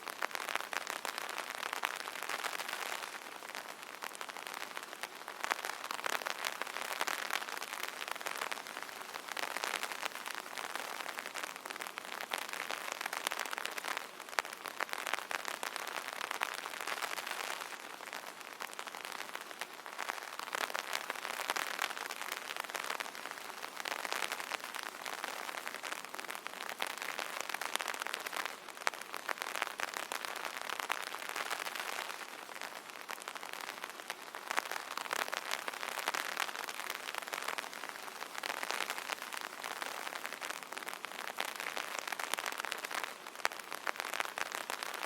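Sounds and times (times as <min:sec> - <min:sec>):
rain falling on an umbrella: 0:00.0 - 0:45.0.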